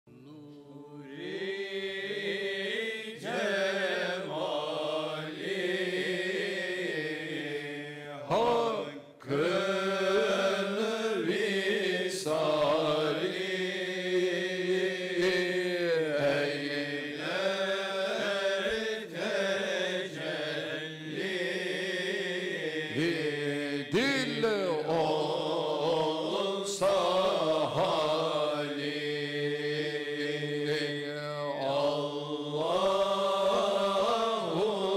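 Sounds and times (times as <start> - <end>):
men chanting in unison: 0.2 - 34.9.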